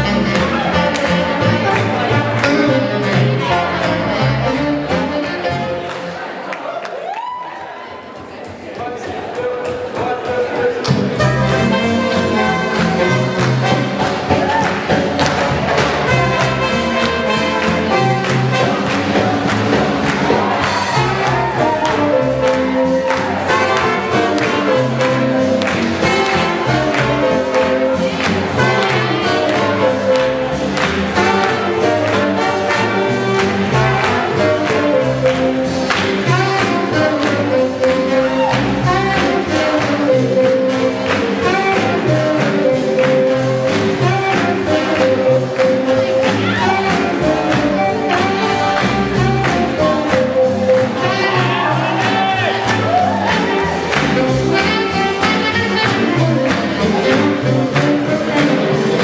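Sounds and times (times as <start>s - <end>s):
drums keeping beat: 0.0s - 6.0s, 8.0s - 59.0s
trumpets and trombones: 0.0s - 6.3s, 10.8s - 59.0s
upright bass: 0.0s - 6.5s, 8.7s - 59.0s.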